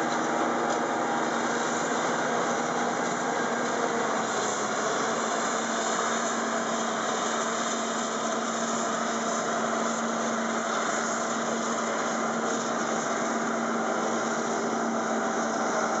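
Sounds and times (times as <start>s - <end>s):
harvester engine and chopping drone: 0.0s - 16.0s.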